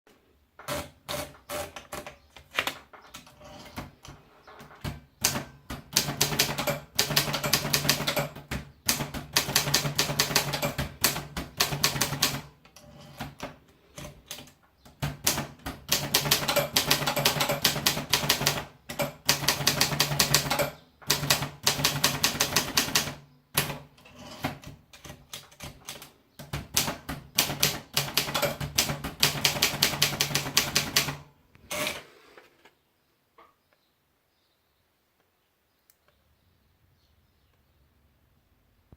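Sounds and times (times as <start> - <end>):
typewriter typing: 0.6 - 32.0.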